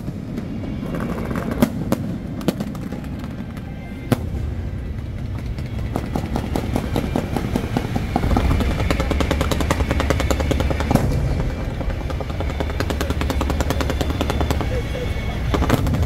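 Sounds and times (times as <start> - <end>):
fireworks crackling: 0.0 - 16.0
loud firework crack: 0.0 - 16.0.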